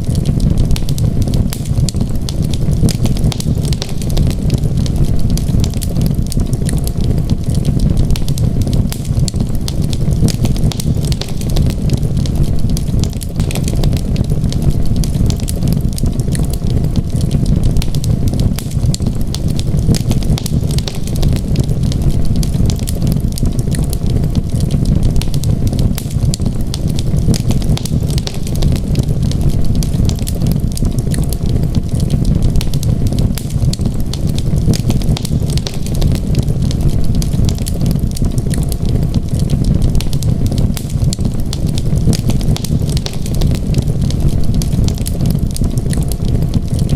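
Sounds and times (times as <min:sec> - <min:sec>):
low rumble: 0:00.0 - 0:46.9
wood fire crackling and popping: 0:00.0 - 0:46.9.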